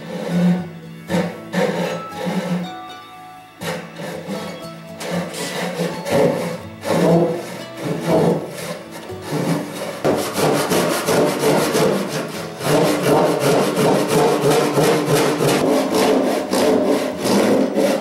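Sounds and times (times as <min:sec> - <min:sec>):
hand file rasping on wood: 0:00.0 - 0:02.8, 0:03.6 - 0:18.0.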